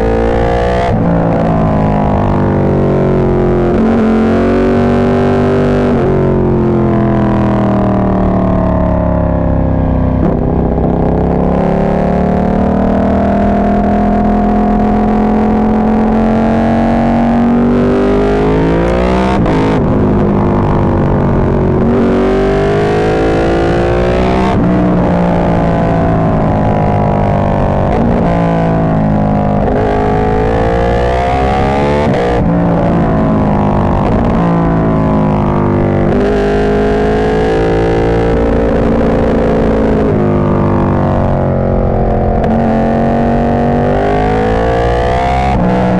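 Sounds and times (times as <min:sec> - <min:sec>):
distorted motorcycle engine revving: 0:00.0 - 0:45.9.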